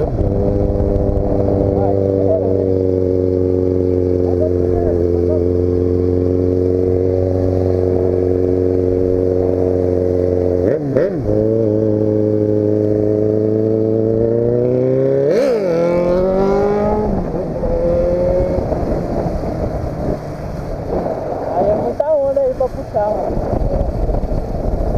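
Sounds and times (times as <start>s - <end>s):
wind noise: 0.0s - 5.4s, 6.7s - 24.9s
motorcycle engine running: 0.0s - 24.9s.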